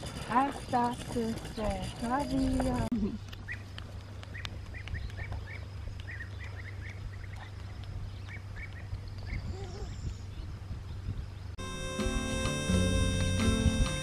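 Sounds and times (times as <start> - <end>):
small birds chirping: 0.3 - 11.6.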